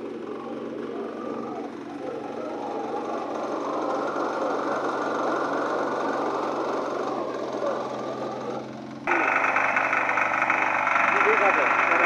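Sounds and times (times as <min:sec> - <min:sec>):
rapid mechanical rattle: 0:00.0 - 0:12.0
small engine running: 0:00.0 - 0:12.0.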